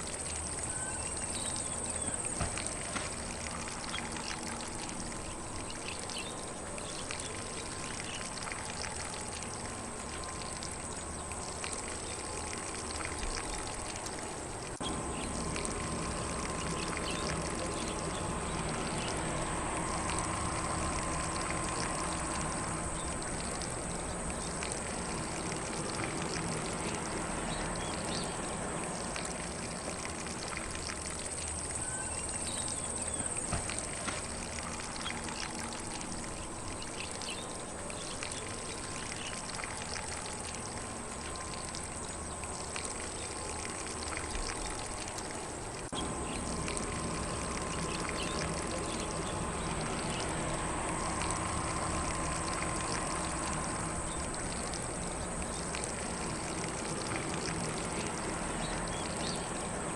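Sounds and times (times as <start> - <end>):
lawn sprinkler spraying water: 0.0 - 59.9.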